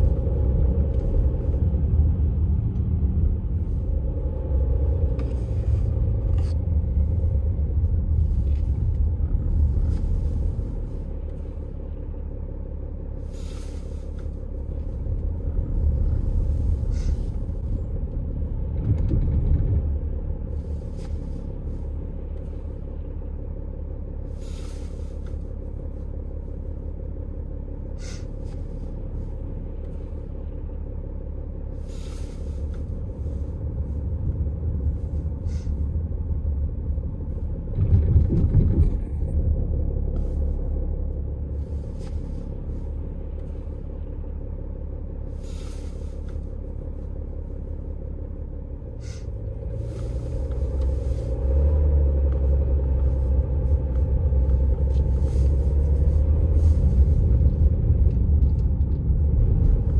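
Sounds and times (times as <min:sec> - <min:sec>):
diesel engine and road rumble: 0:00.0 - 0:59.9.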